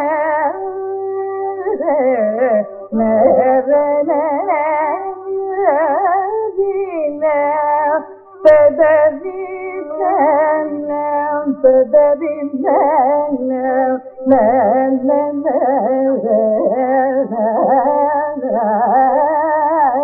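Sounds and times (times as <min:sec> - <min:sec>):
woman singing wordless phrases: 0:00.0 - 0:20.0.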